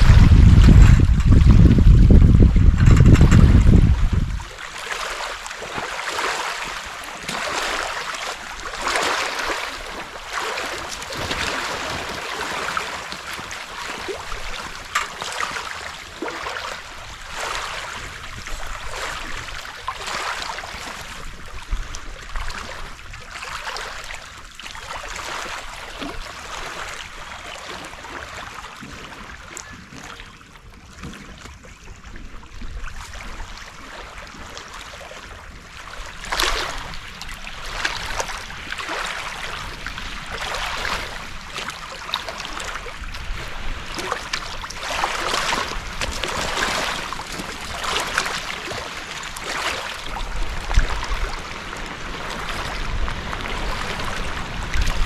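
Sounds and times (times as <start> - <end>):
small waves lapping on rocks: 0.0 - 55.0.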